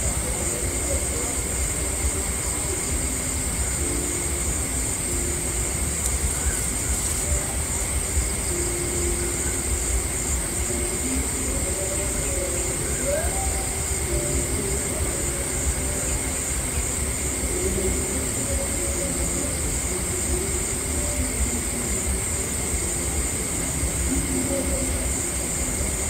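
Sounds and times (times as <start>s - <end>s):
thin high-pitched whine: 0.0s - 26.0s.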